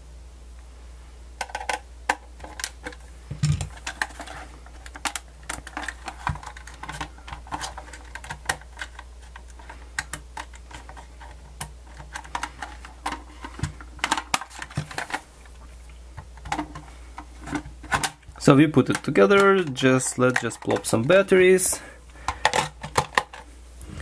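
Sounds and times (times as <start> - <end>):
low steady hum: 0.0 - 24.0
plastic cd player casing clicking: 1.4 - 15.3, 16.2 - 21.2, 22.3 - 23.4.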